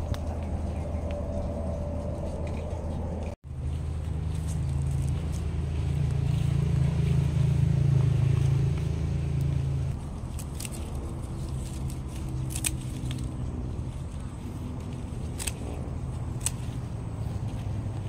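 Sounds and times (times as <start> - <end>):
motor engine humming: 0.0 - 18.0
scissors cutting leaves: 2.0 - 18.0.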